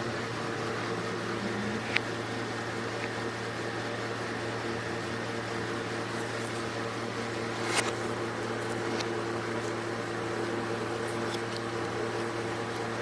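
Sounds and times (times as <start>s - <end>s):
compressor and fan humming: 0.0s - 13.0s.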